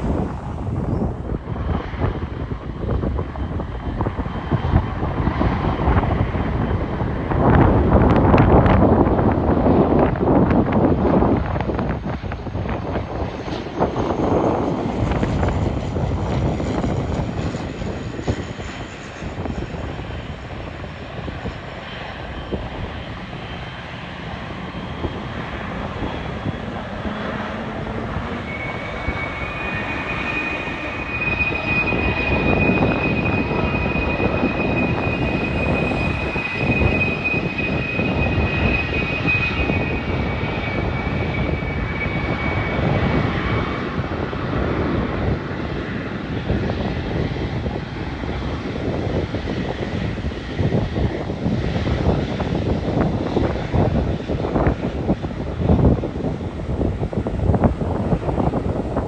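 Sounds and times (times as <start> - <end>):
high engine whine: 0.0 - 59.0
jet engines rumbling: 0.0 - 59.0.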